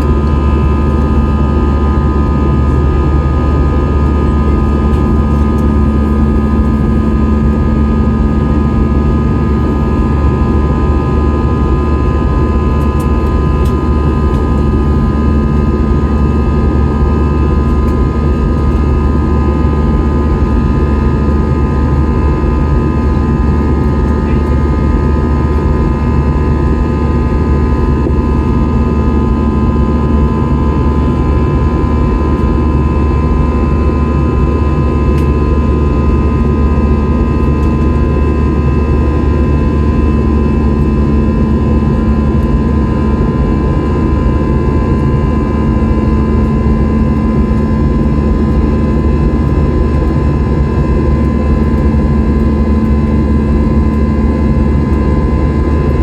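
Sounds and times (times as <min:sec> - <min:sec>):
jet engine rumble in cabin: 0:00.0 - 0:56.0
steady engine whine: 0:00.0 - 0:56.0.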